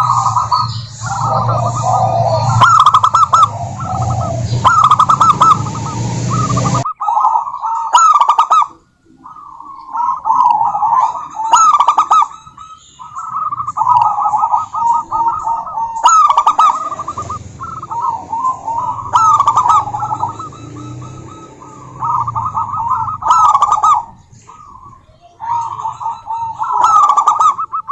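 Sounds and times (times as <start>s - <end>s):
doves cooing: 0.0s - 27.9s.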